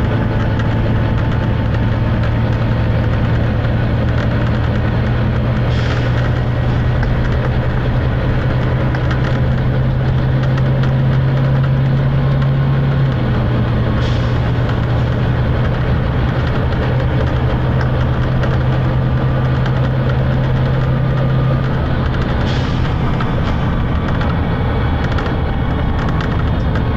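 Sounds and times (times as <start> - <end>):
bus diesel engine drone: 0.0 - 26.9.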